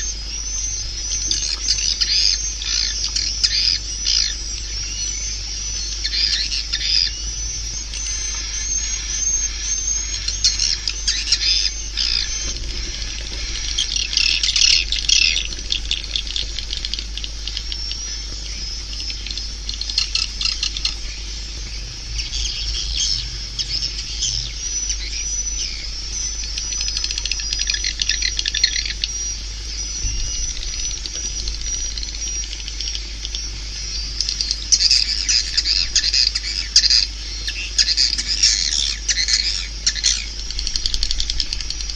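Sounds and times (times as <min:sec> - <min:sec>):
steady low hum: 0:00.0 - 0:41.9
swiftlets twittering: 0:00.0 - 0:41.9.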